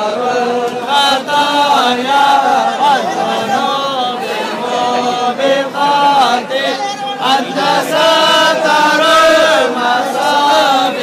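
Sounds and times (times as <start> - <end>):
men chanting a hymn in unison: 0.0 - 11.0.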